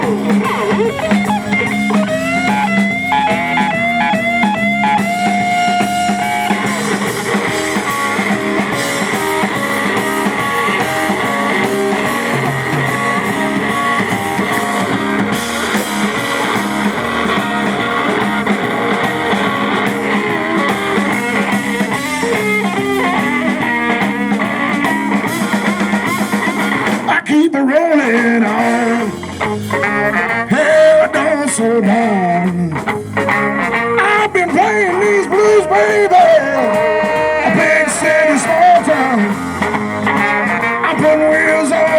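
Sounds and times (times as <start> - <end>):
drum kit: 0.0 - 27.2, 28.0 - 41.9
bass guitar: 0.0 - 41.9
electric guitar lead: 0.0 - 41.9.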